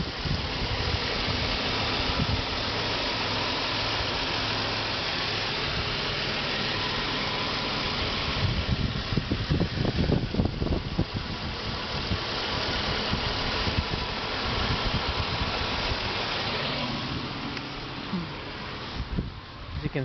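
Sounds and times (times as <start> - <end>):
tyre and road hiss: 0.0 - 20.0.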